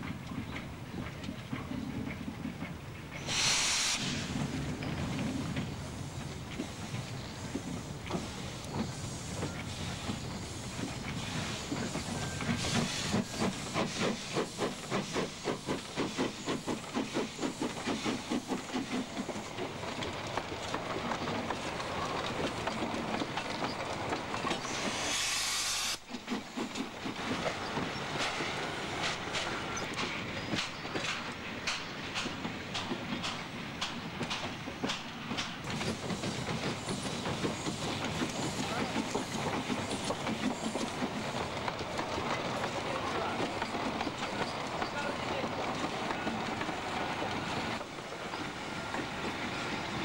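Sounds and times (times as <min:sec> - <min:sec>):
steam locomotive chuffing: 0:00.0 - 0:50.0
train wheels clicking over rail joints: 0:00.0 - 0:50.0
loud hiss of escaping steam: 0:03.2 - 0:20.2, 0:24.5 - 0:50.0.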